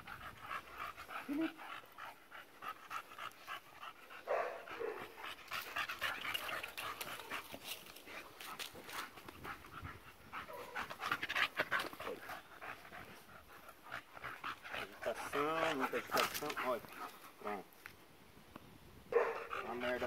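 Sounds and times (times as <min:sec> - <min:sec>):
dog panting: 0:00.0 - 0:17.6, 0:19.2 - 0:20.0.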